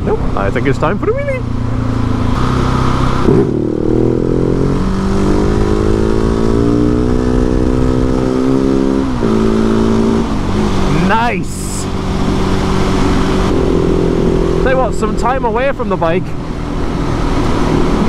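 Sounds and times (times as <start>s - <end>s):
motorcycle engine revving: 0.0s - 18.0s
wind rushing over microphone: 1.6s - 15.2s, 16.3s - 18.0s.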